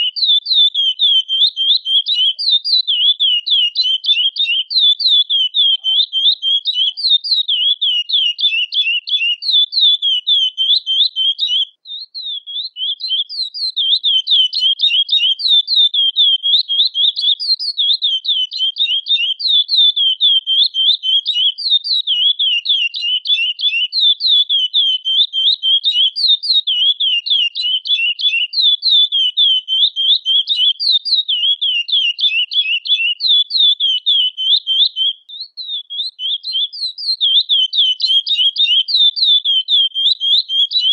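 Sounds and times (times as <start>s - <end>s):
finch chirping and singing: 0.0s - 40.9s.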